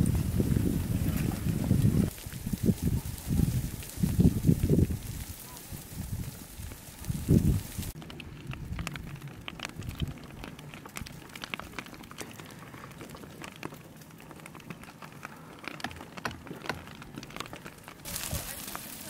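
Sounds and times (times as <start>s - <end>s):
lava crust crackling and clinking: 0.0s - 19.0s.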